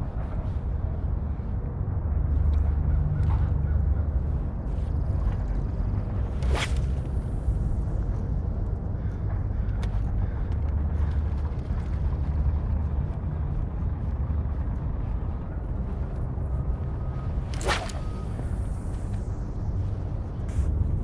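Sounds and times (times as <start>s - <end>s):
steady low rumbling: 0.0s - 21.0s.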